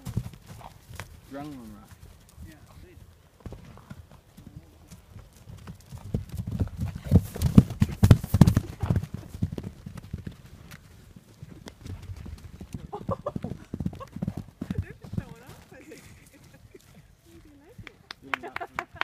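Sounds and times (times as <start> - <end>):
horses galloping on grass: 0.0 - 19.0.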